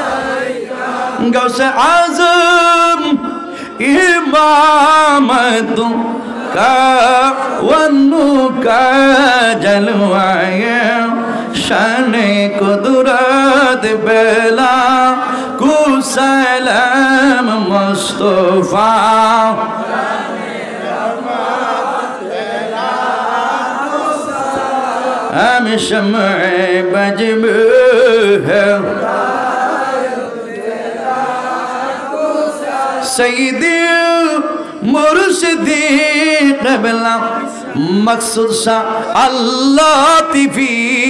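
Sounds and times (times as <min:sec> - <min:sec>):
man singing devotional song: 0:00.0 - 0:41.0.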